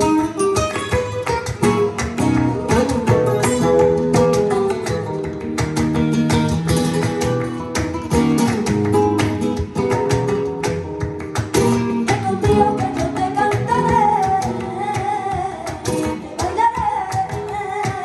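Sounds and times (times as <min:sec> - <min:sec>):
plucked acoustic guitar music: 0:00.0 - 0:18.0.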